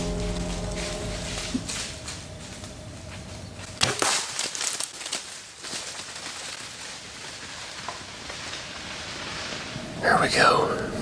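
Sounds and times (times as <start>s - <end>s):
rustling through dry leaves: 0.0s - 10.0s.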